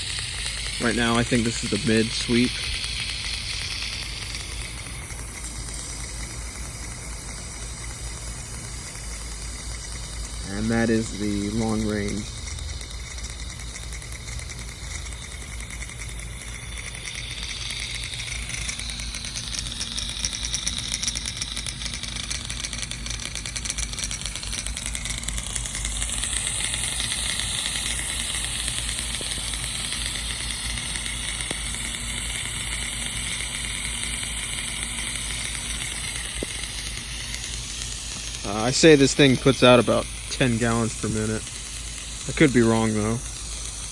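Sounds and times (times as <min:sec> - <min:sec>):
sprinkler head rattling: 0:00.0 - 0:43.9
water jetting from sprinkler: 0:00.0 - 0:43.9.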